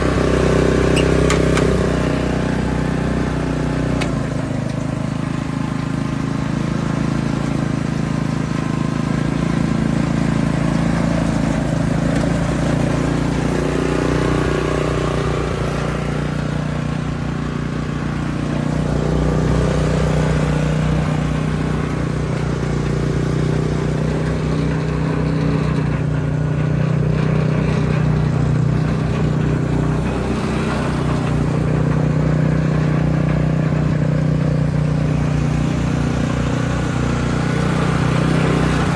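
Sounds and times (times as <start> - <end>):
single-cylinder petrol engine running: 0.0 - 38.9.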